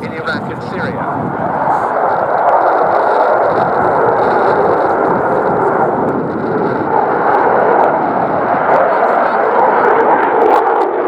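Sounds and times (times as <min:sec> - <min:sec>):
loud jet noise: 0:00.0 - 0:11.0.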